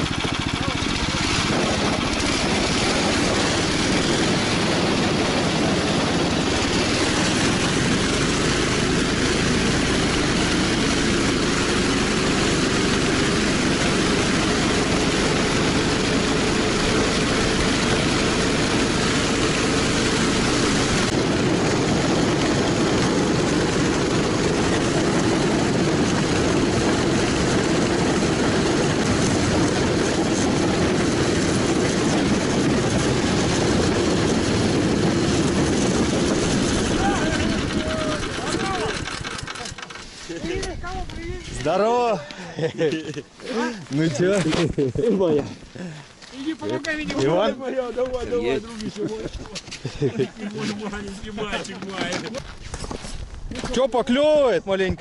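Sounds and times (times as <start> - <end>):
small engine running: 0.0 - 53.0.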